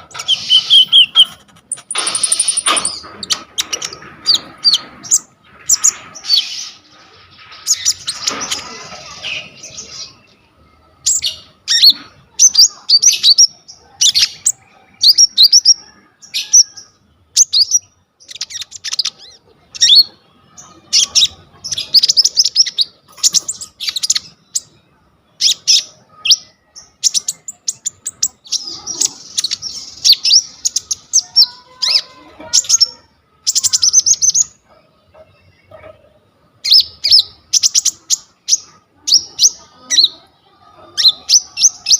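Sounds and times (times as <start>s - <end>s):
songbird chirping and trilling: 0.0s - 41.9s.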